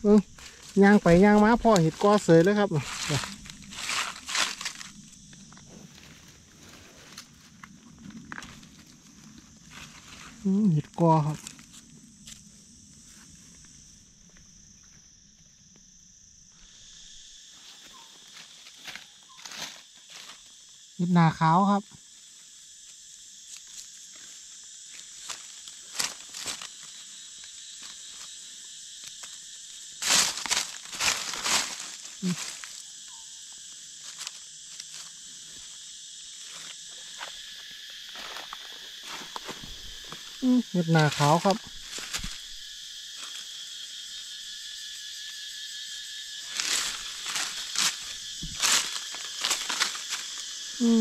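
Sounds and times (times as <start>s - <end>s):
dry leaves crackling underfoot: 0.0s - 13.2s, 17.8s - 20.8s, 22.3s - 43.6s, 46.2s - 51.0s
insects high-pitched drone: 0.0s - 51.0s
lower insect drone: 0.0s - 51.0s.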